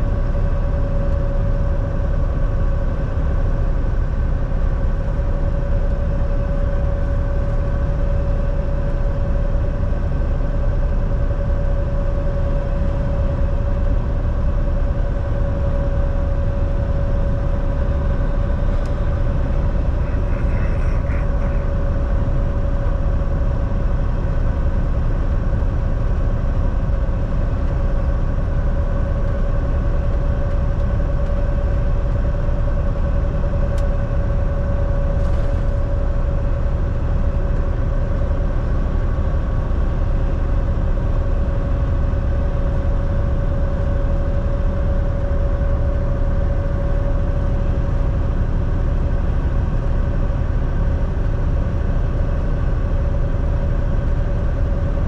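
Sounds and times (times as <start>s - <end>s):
truck engine and road noise: 0.0s - 55.0s.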